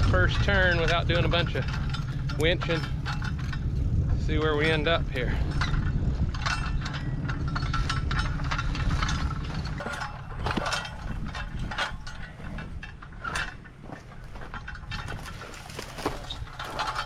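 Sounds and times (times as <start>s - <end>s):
low engine rumble: 0.0s - 17.0s
rattling and clinking: 0.0s - 17.0s.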